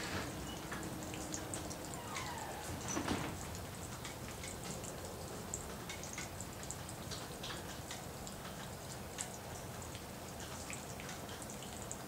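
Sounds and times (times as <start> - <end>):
raindrops tapping: 0.0 - 12.0
steady rain hiss: 0.0 - 12.0.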